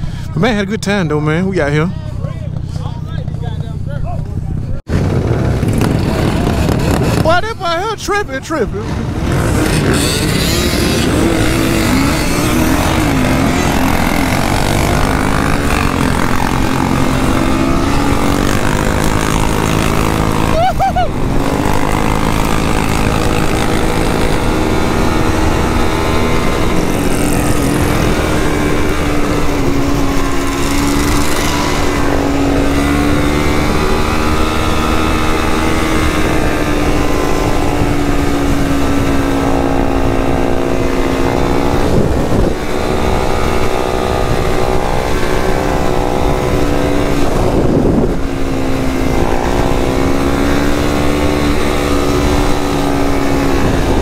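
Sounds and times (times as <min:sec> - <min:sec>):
quad engine running: 0:00.0 - 0:54.0.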